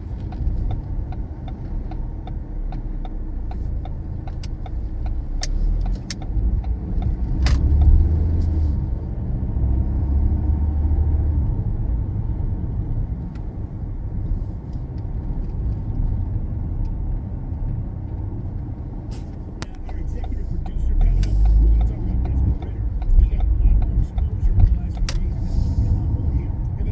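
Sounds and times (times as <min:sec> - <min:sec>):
car engine and road rumble: 0:00.0 - 0:26.9.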